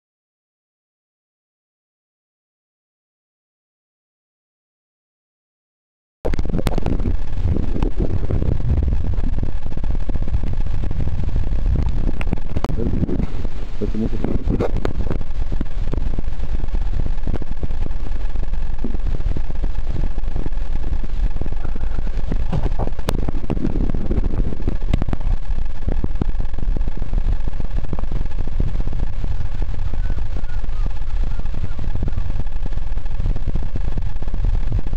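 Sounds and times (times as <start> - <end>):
sharp clicks and crackles: 6.3 - 34.9
underwater rumble: 6.3 - 34.9.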